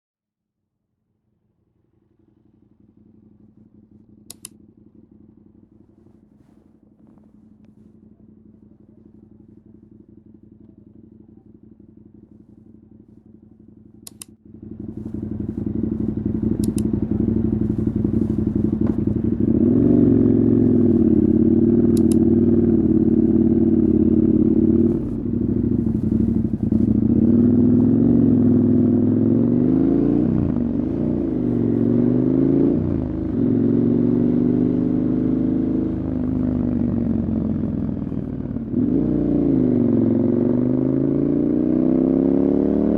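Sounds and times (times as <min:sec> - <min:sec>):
motorcycle engine revving: 0:02.8 - 0:42.9.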